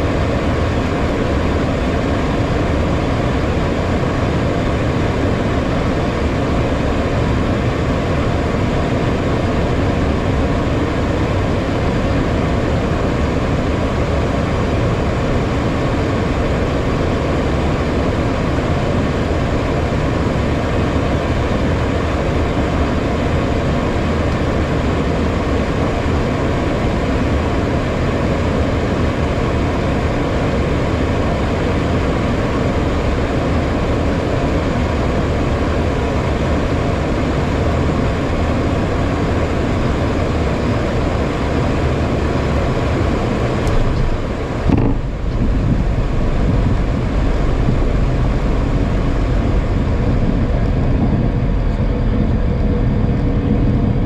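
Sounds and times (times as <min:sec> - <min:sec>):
cockpit airflow and engine noise: 0:00.0 - 0:54.0.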